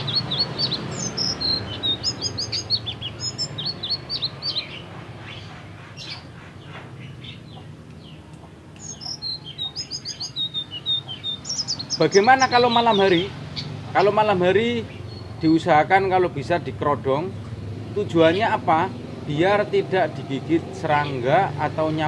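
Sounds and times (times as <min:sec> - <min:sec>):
songbird chirping: 0:00.0 - 0:19.8, 0:20.6 - 0:22.0.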